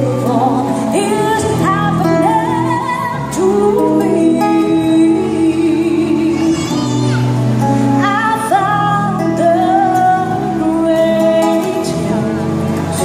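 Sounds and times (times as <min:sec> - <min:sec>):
amplified instrumental accompaniment: 0:00.0 - 0:13.0
woman singing through speakers: 0:00.0 - 0:13.0.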